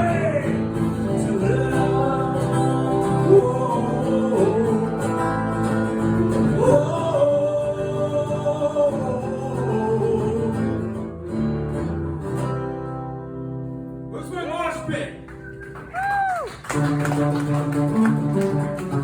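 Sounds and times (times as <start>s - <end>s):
strummed acoustic guitar: 0.0s - 15.6s, 16.7s - 19.0s.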